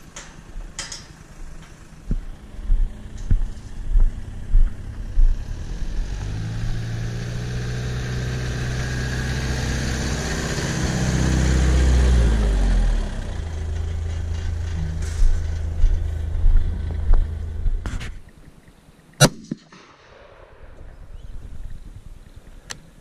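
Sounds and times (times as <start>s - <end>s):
vehicle engine running: 0.0s - 18.8s.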